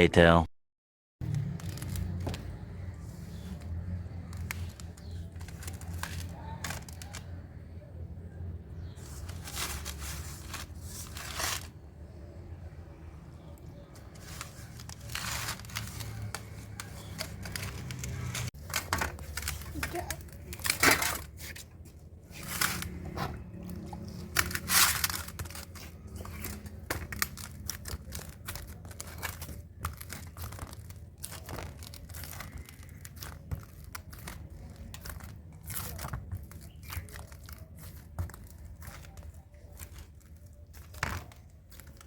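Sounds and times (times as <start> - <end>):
crackling and rustling: 1.2 - 8.0, 8.7 - 11.9, 13.0 - 42.0.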